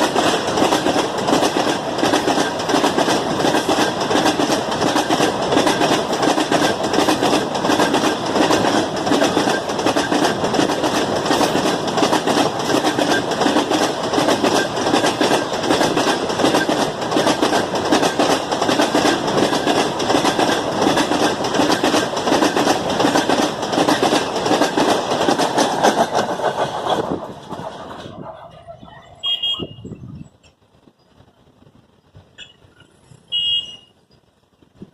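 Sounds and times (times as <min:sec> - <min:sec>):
train wheels clattering over rail joints: 0:00.0 - 0:29.2.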